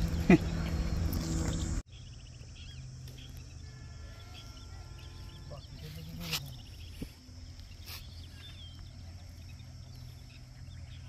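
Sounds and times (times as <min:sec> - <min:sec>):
insects calling: 0:00.0 - 0:11.0
small birds chirping: 0:00.0 - 0:11.0.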